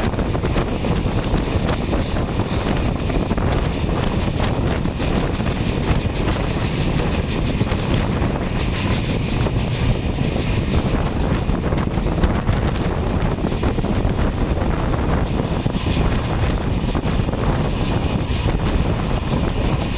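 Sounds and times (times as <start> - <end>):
train coaches rolling on rails: 0.0 - 19.9
wind buffeting microphone: 0.0 - 19.9.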